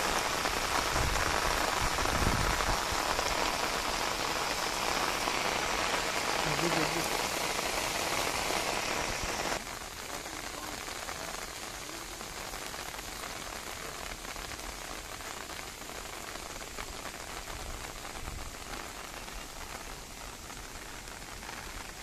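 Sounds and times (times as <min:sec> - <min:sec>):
heavy rain on water: 0:00.0 - 0:22.0.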